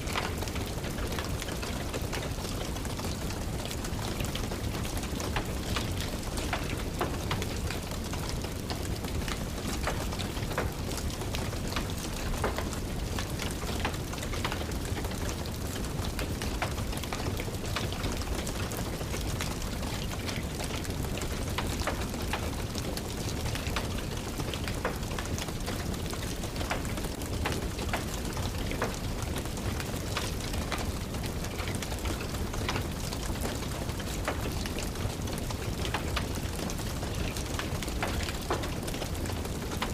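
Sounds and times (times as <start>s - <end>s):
steady rain falling: 0.0s - 39.9s
wood fire crackling: 0.0s - 39.9s.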